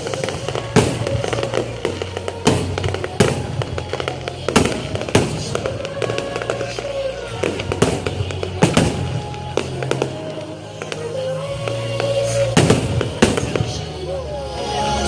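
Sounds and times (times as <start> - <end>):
fireworks bangs and crackles: 0.0 - 14.4.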